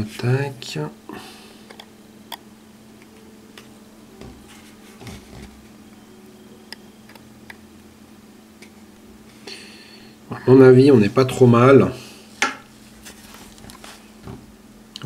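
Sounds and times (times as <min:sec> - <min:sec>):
low hum: 0:00.9 - 0:15.0.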